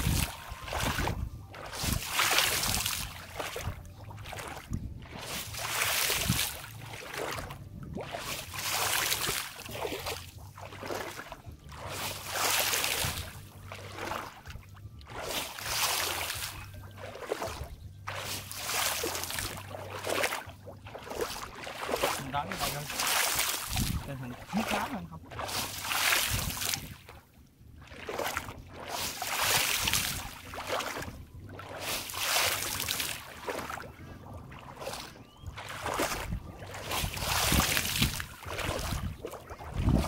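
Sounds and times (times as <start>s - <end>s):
water splashing: 0.0s - 40.0s.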